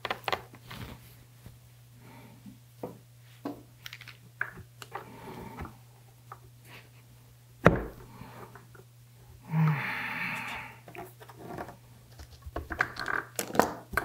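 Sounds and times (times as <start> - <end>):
steady low hum: 0.5 - 12.2.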